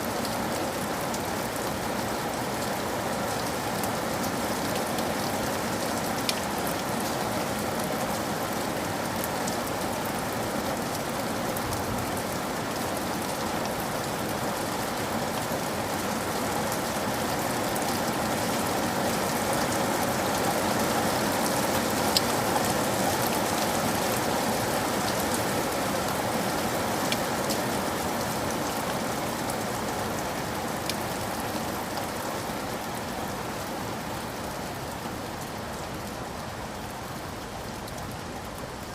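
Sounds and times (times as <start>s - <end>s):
rain on hard surfaces: 0.0s - 38.9s.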